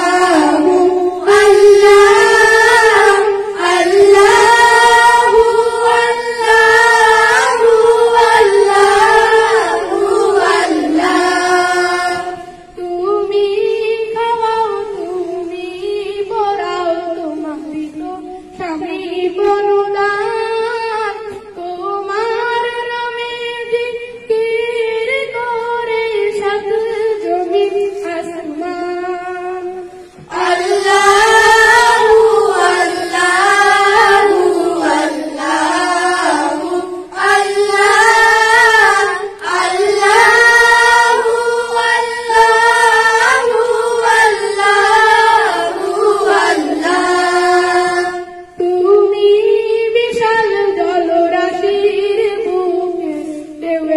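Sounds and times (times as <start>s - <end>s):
children singing a cappella: 0.0s - 53.9s.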